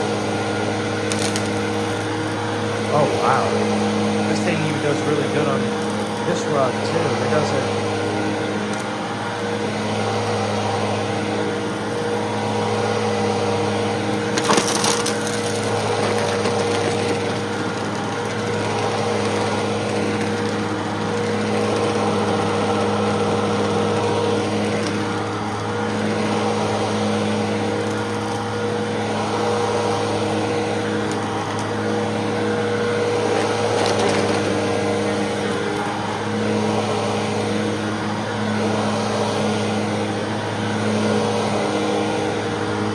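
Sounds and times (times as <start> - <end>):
upright vacuum cleaner running: 0.0 - 42.9.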